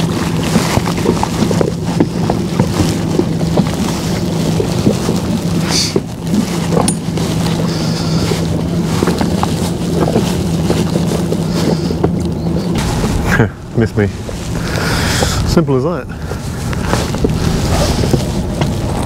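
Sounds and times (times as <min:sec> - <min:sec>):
motorboat engine humming: 0:00.0 - 0:19.0
water noise: 0:00.0 - 0:19.0
wind: 0:00.0 - 0:19.0.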